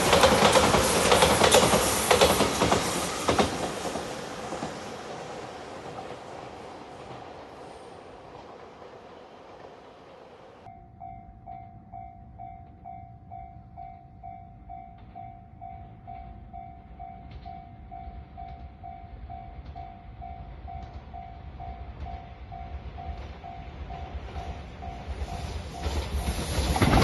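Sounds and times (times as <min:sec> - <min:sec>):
passing train noise: 0:00.0 - 0:27.0
train rumbling: 0:00.0 - 0:27.0.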